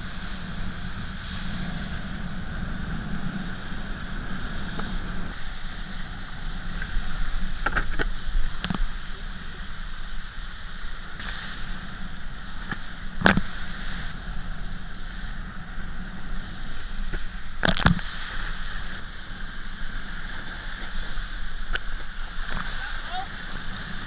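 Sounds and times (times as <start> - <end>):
water rushing and spraying: 0.0 - 24.0.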